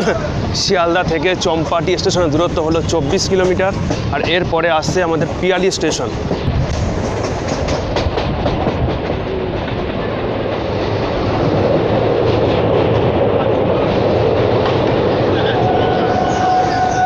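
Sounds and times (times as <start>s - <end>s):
train rumble from inside: 0.0s - 17.0s
wheels clattering over rail joints: 1.6s - 16.1s.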